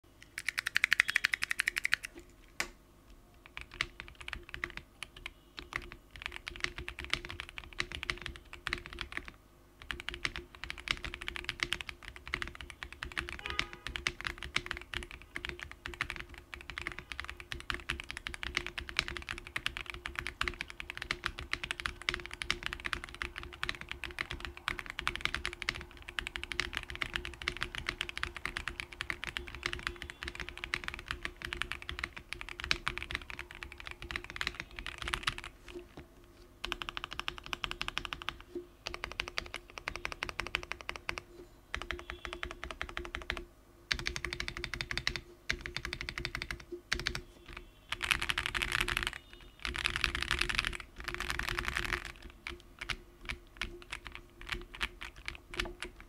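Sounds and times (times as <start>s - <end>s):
mechanical keyboard typing: 0.2s - 2.2s, 3.4s - 35.9s, 36.6s - 56.0s.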